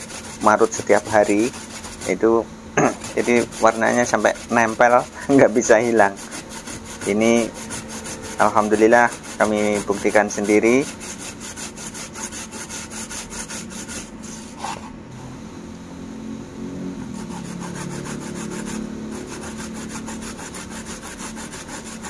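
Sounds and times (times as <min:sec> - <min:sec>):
root grated on metal grater: 0:00.0 - 0:14.8, 0:17.0 - 0:22.0.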